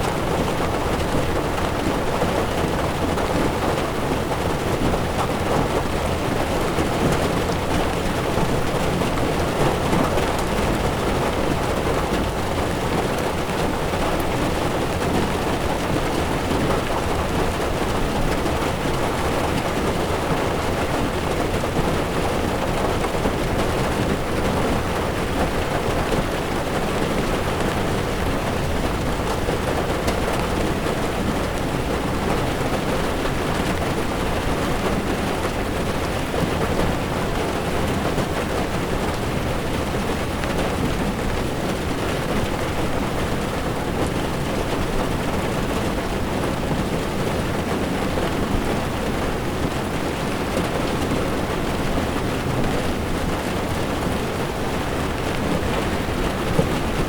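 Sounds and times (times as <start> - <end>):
heavy rain on windshield: 0.0 - 57.0
tyres on wet road: 0.0 - 57.0.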